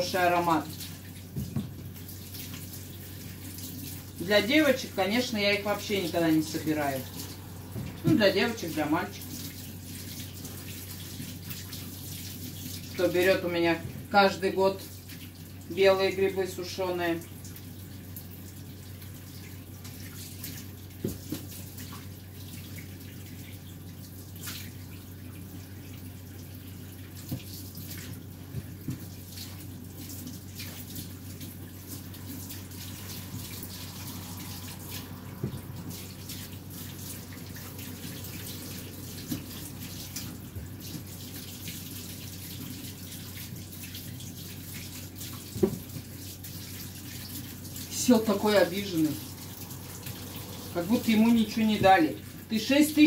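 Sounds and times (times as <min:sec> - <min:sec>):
tap water running into sink: 0:00.0 - 0:53.0.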